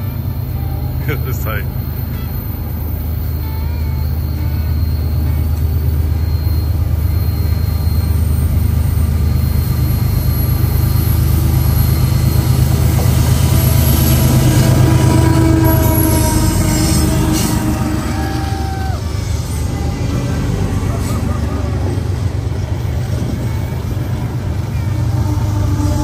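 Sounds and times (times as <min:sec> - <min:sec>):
train low rumble: 0:00.0 - 0:26.0
wheel and rail noise: 0:00.0 - 0:26.0.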